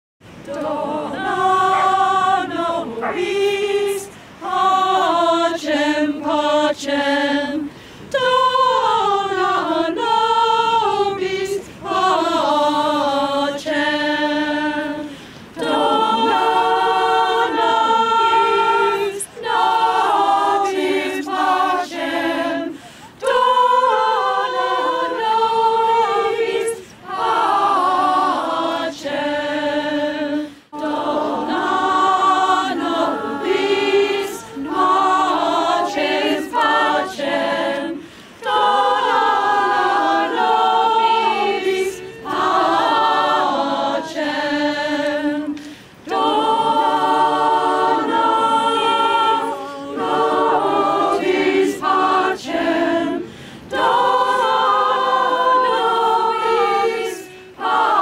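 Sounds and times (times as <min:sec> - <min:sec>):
choir singing unaccompanied: 0:00.3 - 0:58.0.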